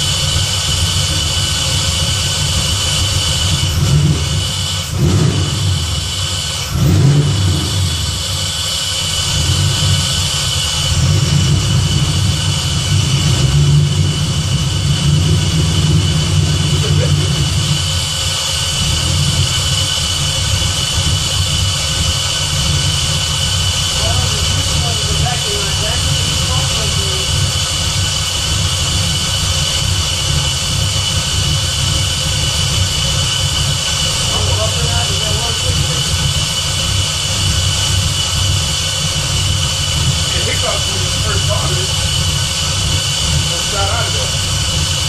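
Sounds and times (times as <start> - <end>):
engine idling with surges: 0.0 - 45.0.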